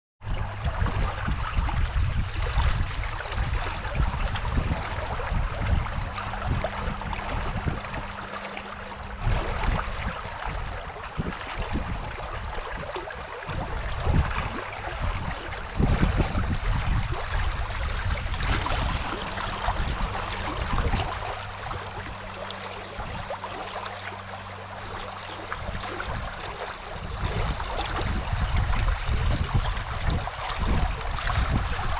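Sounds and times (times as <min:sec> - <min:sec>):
wind buffeting microphone: 0:00.2 - 0:31.9
faint low hum: 0:00.4 - 0:28.3
rushing river water: 0:00.7 - 0:31.9.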